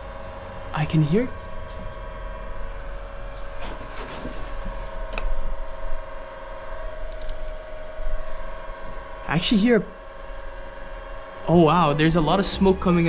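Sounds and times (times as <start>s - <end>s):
air pump humming: 0.0s - 13.0s.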